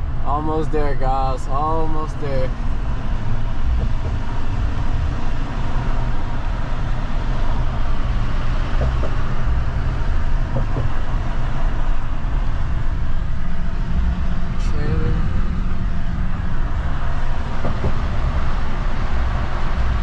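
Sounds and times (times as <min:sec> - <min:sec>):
truck road and engine rumble: 0:00.0 - 0:20.0.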